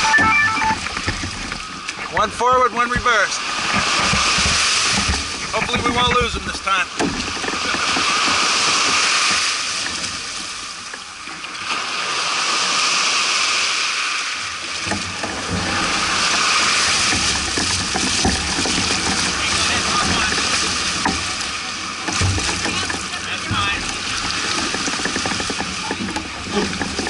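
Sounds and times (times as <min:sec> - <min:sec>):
water splashing against hulls: 0:00.0 - 0:27.0.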